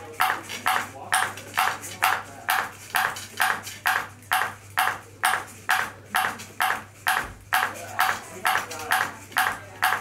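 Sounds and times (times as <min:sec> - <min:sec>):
ping pong ball bouncing on plastic: 0:00.0 - 0:10.0.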